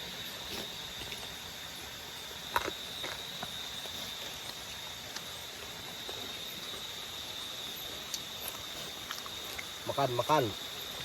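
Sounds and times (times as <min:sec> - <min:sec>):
background hiss: 0:00.0 - 0:11.0
insects trilling: 0:00.0 - 0:11.0.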